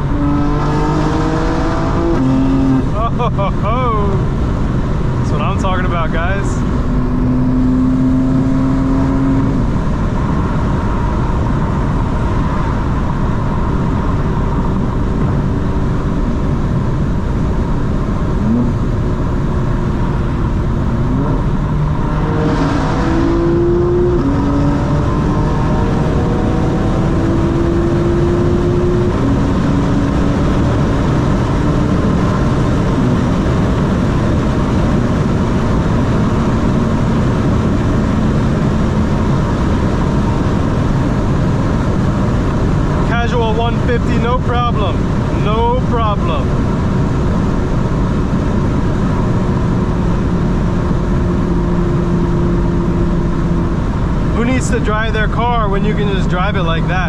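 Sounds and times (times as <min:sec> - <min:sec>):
car engine driving: 0:00.0 - 0:57.0
road and tyre noise: 0:00.0 - 0:57.0.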